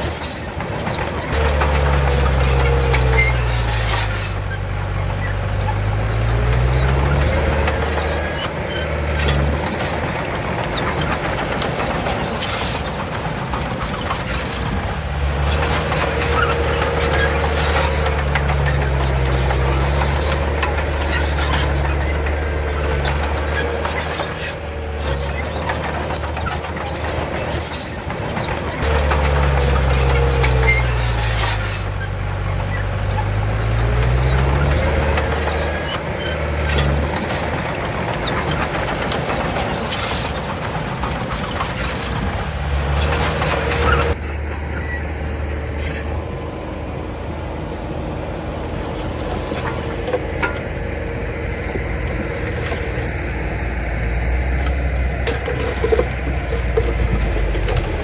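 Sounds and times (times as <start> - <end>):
machinery squeaks: 0.0 - 46.4, 48.3 - 58.0
bulldozer diesel engine: 0.0 - 58.0.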